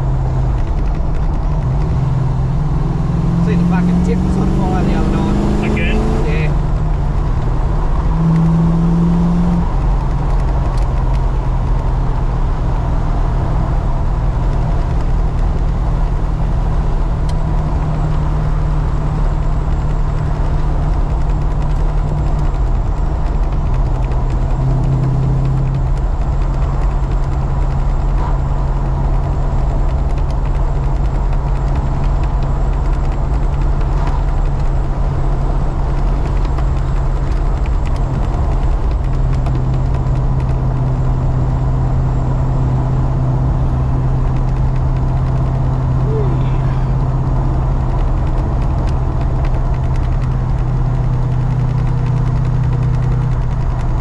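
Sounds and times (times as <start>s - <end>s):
car engine hum: 0.0s - 54.0s
road and wind noise: 0.0s - 54.0s.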